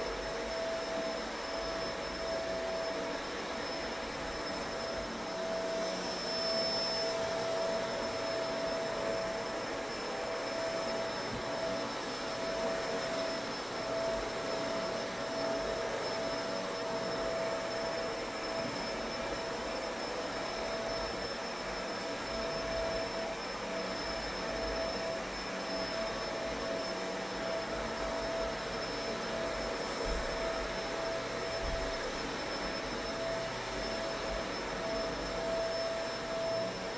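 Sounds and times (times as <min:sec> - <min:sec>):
vacuum cleaner motor whine: 0:00.0 - 0:36.9.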